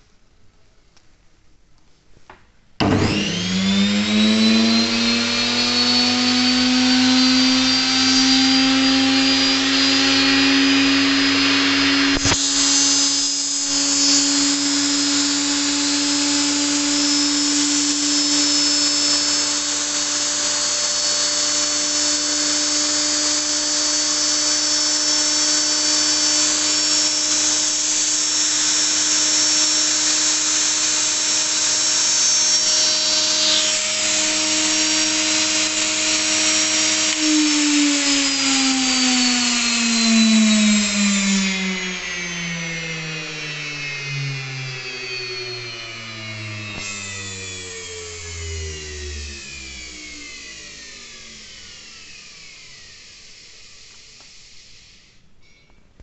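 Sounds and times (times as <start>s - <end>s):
electric motor whining: 2.8s - 55.2s.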